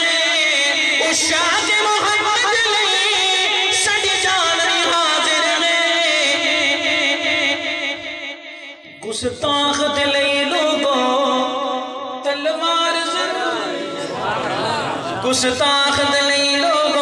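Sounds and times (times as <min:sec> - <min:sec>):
man chanting into a microphone: 0:00.0 - 0:14.1, 0:15.2 - 0:17.0.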